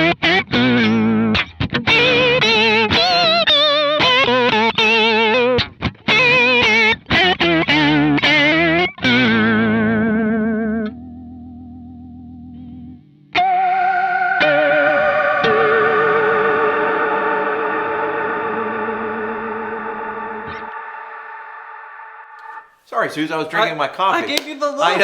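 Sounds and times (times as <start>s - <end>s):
distorted electric guitar with vibrato: 0.0s - 22.2s.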